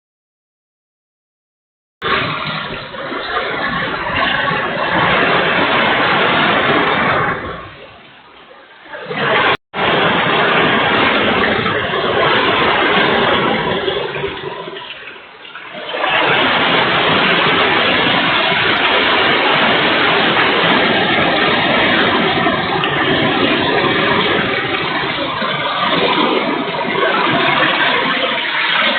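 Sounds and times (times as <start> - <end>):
torrential rain: 2.0 - 28.9
wind: 2.0 - 28.9.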